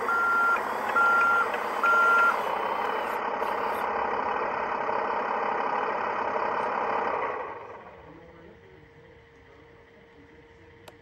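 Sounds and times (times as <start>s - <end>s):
simulated diesel engine idling: 0.0s - 11.0s.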